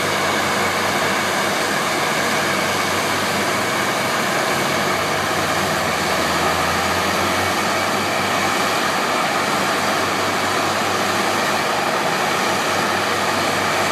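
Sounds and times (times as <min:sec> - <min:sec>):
loud truck engines: 0:00.0 - 0:13.9.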